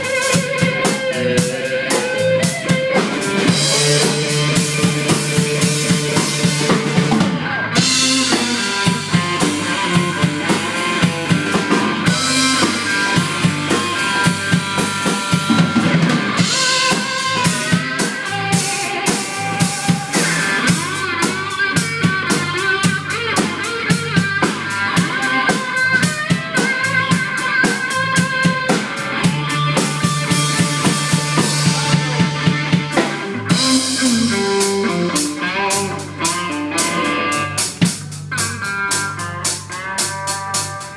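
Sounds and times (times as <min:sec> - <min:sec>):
drum kit: 0:00.0 - 0:40.9
electric guitar fast lead: 0:00.0 - 0:40.9.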